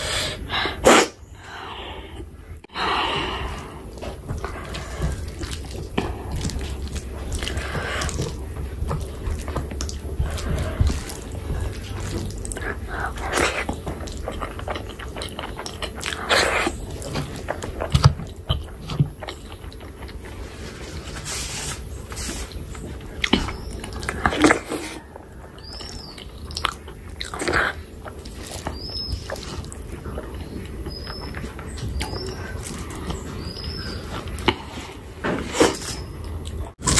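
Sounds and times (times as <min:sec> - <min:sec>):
wet chewing and mouth sounds: 0:02.2 - 0:21.2, 0:21.8 - 0:36.9.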